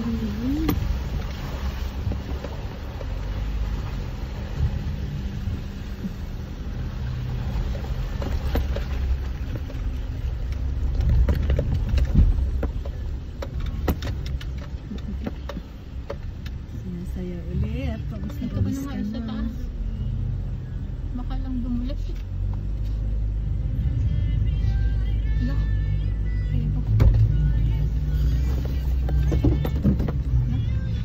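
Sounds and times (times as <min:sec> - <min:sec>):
car engine drone: 0:00.0 - 0:31.0.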